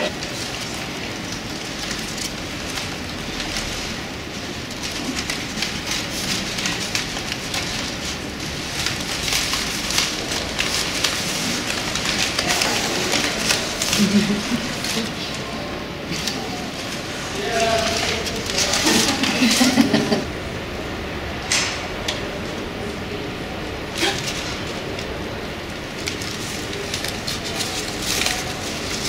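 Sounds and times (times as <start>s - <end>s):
crumpled paper rustling and crackling: 0.0s - 20.6s, 22.0s - 29.0s.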